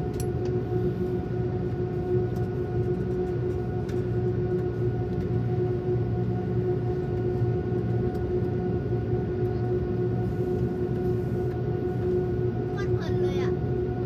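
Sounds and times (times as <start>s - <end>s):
droning hum tone: 0.0s - 14.0s
jet engines rumbling: 0.0s - 14.0s.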